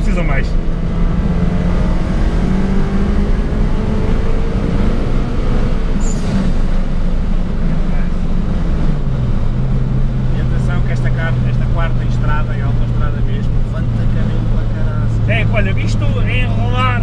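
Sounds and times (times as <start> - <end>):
car engine running hard: 0.0 - 17.0.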